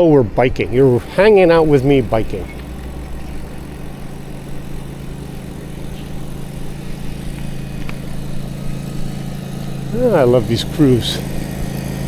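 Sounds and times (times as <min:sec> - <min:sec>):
engine humming steadily: 0:00.6 - 0:12.0.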